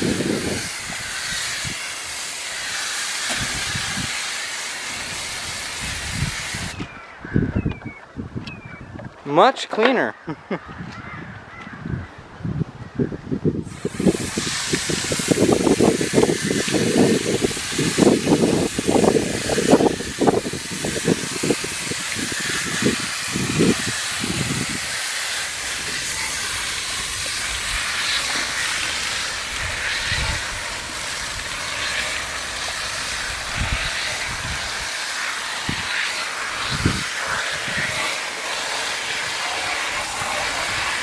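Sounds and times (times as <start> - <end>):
hose nozzle spraying water: 0.0 - 6.9, 13.6 - 41.0.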